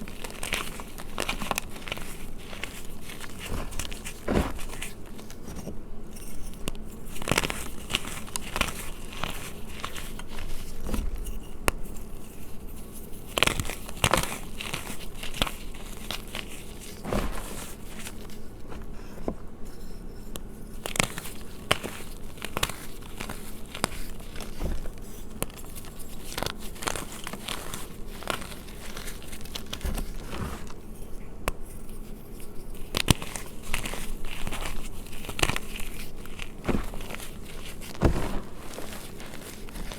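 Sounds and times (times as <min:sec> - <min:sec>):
chalk being crushed: 0:00.0 - 0:19.3, 0:20.3 - 0:39.9.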